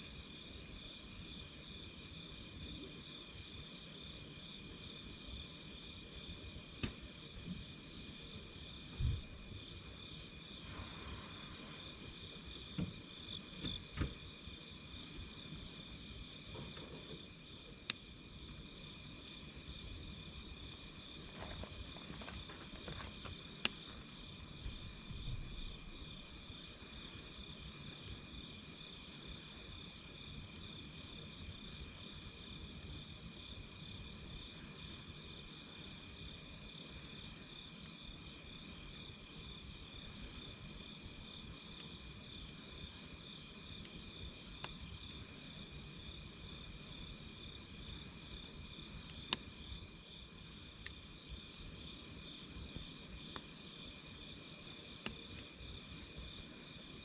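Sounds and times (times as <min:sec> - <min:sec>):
campfire crackling: 0:00.0 - 0:57.0
insects chirping: 0:00.0 - 0:57.0.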